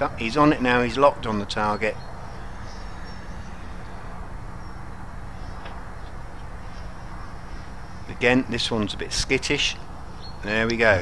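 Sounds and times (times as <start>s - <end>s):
low buzzing hum: 0.0s - 11.0s.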